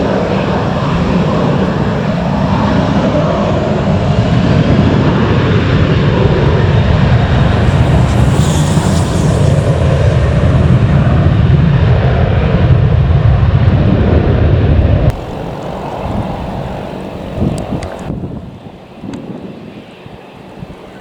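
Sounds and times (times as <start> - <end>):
jet engine roar: 0.0 - 21.0
wind noise on microphone: 0.0 - 21.0.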